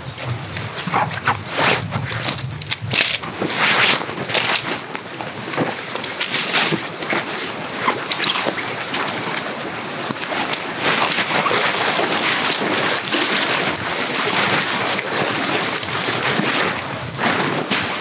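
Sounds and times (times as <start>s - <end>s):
fabric rustling: 0.0s - 18.0s.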